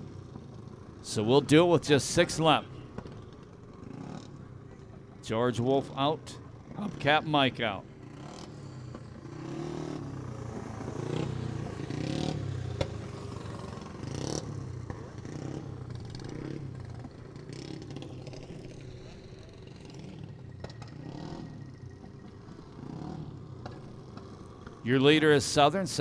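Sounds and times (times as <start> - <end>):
kart engines passing: 0.0 - 26.0.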